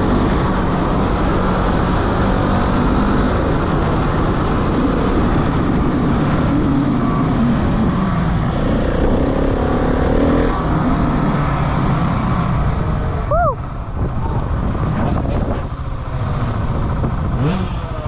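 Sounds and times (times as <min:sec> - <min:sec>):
wind rush on microphone: 0:00.0 - 0:18.0.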